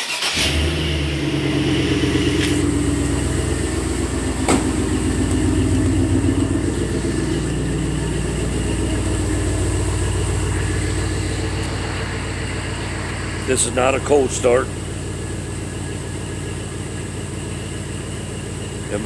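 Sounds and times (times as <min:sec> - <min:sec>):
vee eight engine idling: 0:00.0 - 0:19.0.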